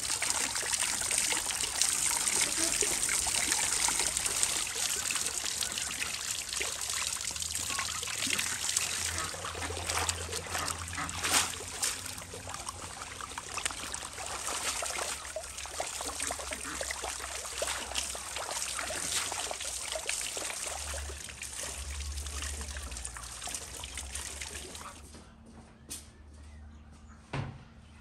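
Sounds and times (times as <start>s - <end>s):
water running into a basin: 0.0s - 25.0s
water dripping and splashing: 0.0s - 25.1s.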